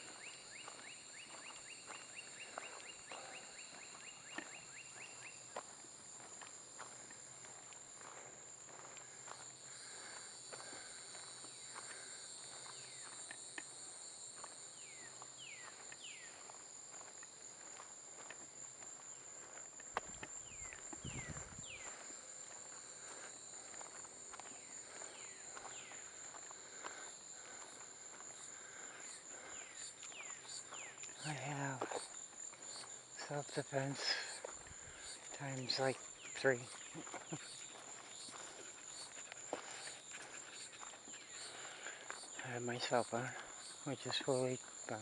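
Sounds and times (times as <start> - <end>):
footsteps walking: 0.0 - 45.0
insect chorus trilling: 0.0 - 45.0.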